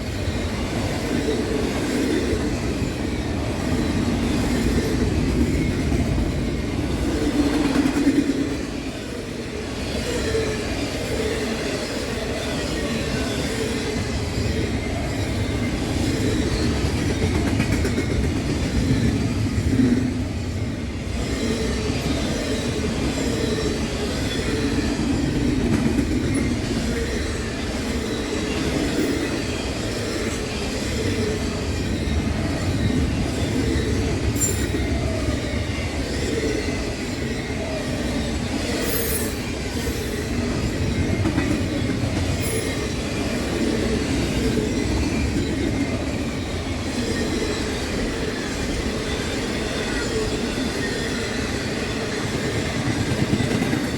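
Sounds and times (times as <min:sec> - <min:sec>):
freight train wheels rumbling: 0:00.0 - 0:53.9
train wheel squeals: 0:00.0 - 0:53.9.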